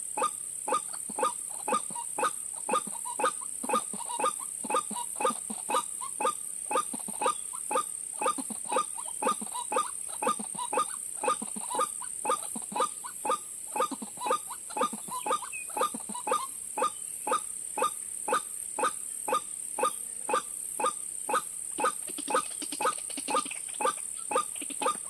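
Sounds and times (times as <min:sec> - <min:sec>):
waterhen harsh calls: 0:00.2 - 0:25.0.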